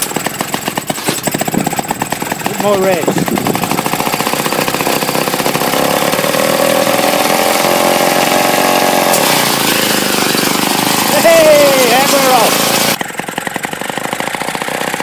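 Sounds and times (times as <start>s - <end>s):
lawn mower engine revving: 0.0s - 15.0s.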